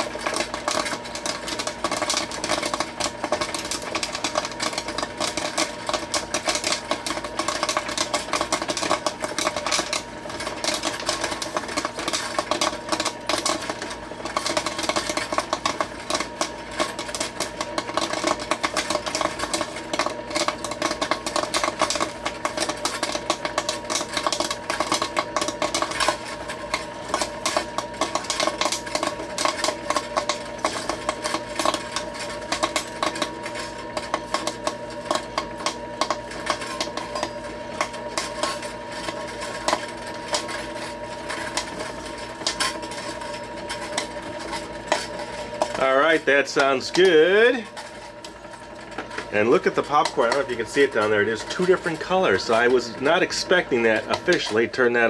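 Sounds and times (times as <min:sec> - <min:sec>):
popcorn popping: 0:00.0 - 0:55.0
stirring motor hum: 0:00.0 - 0:55.0.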